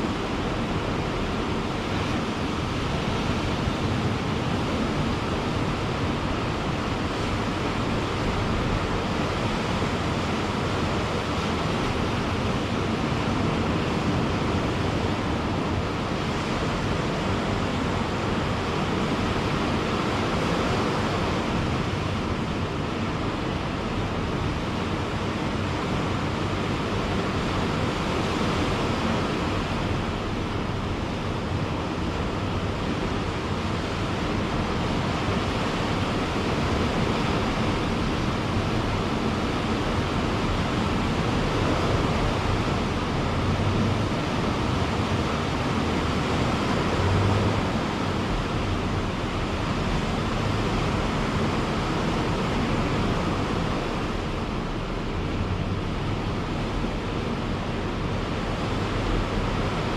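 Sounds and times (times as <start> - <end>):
ocean waves washing on beach: 0.0 - 59.9.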